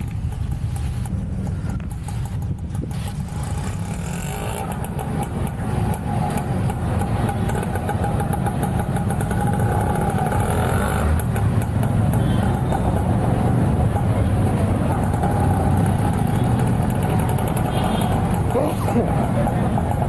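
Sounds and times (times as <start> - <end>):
motorbikes: 0.0 - 20.0
road traffic: 0.0 - 20.0
vehicle engine noise: 0.0 - 20.0.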